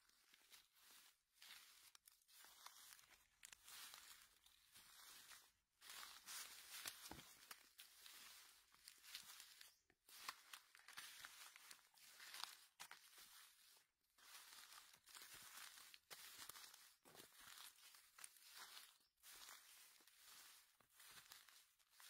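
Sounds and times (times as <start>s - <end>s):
dry leaves crackling and rustling: 0.0s - 22.0s.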